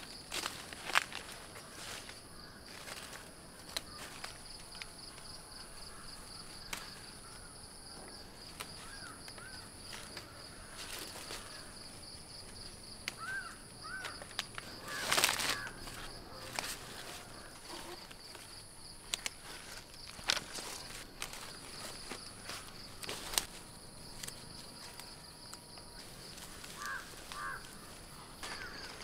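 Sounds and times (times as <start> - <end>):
bean vines rustling and snapping: 0.0 - 7.5, 8.1 - 29.0
insect calling in rapid pulses: 0.3 - 29.0.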